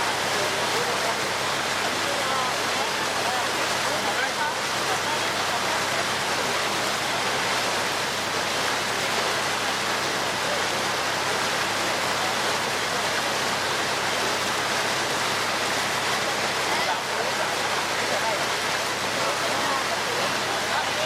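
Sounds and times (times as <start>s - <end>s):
water rushing along boat hull: 0.0s - 21.0s.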